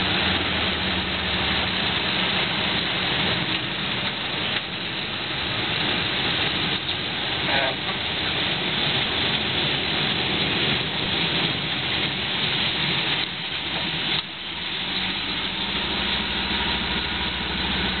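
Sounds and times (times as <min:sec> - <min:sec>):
motorboat engine: 0:00.0 - 0:12.2, 0:13.7 - 0:18.0
low engine hum: 0:00.0 - 0:18.0
wind and water rushing: 0:00.0 - 0:18.0.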